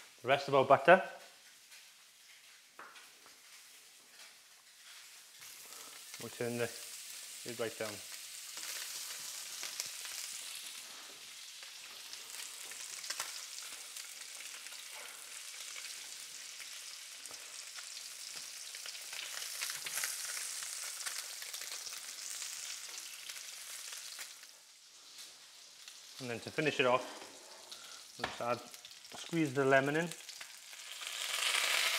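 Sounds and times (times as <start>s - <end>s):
fish sizzling in a pan: 1.3s - 31.9s.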